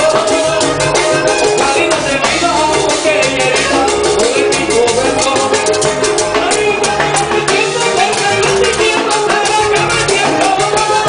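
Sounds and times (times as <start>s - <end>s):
button accordion melody: 0.0s - 11.0s
man singing: 0.0s - 11.0s
shaken and scraped percussion: 0.0s - 11.0s.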